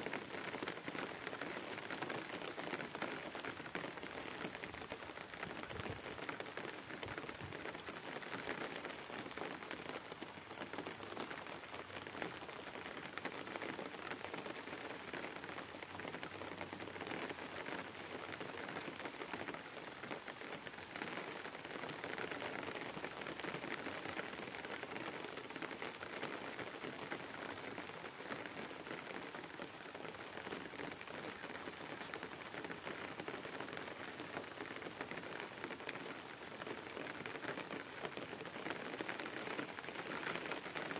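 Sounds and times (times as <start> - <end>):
rain on water and leaves: 0.0 - 40.9.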